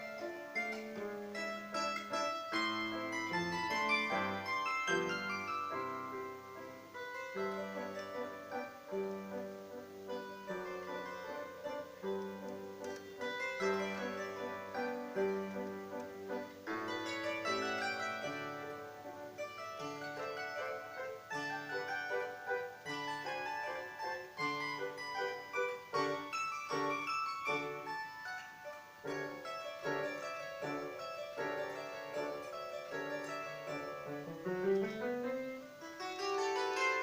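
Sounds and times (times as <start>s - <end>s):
plucked string instrument melody: 0.0s - 37.0s.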